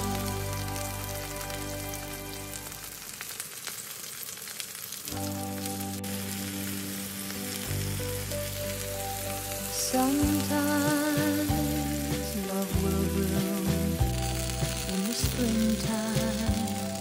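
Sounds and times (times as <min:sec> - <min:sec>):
background music: 0:00.0 - 0:03.1, 0:05.1 - 0:17.0
vegetables sizzling in a grill pan: 0:00.0 - 0:17.0.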